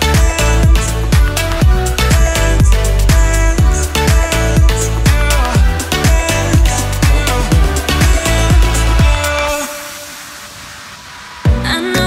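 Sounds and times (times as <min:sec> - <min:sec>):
music with deep bass thumps: 0:00.0 - 0:09.7, 0:11.4 - 0:12.0.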